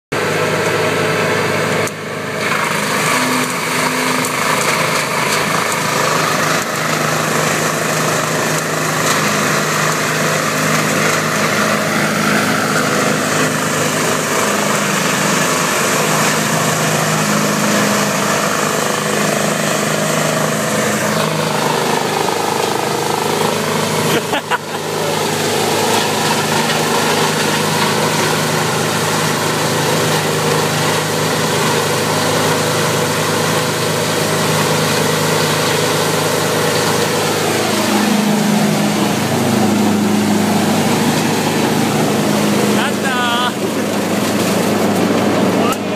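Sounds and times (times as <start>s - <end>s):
wood chipper chipping branches: 0.2s - 45.9s.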